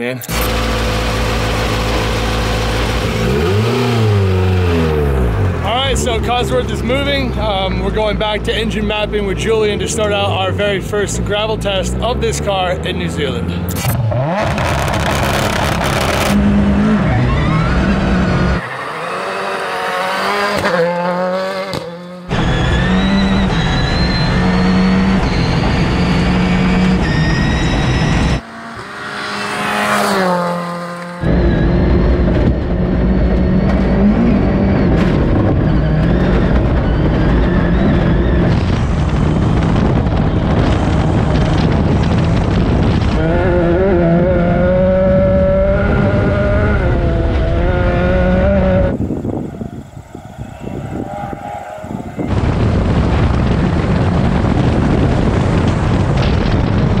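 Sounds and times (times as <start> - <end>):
rally car engine revving: 0.2 - 57.0.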